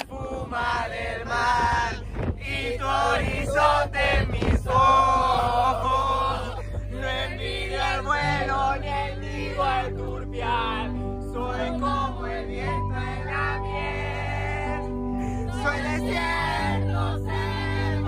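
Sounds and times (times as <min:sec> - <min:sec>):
steady music backing: 0:00.0 - 0:18.0
man singing: 0:02.8 - 0:18.0.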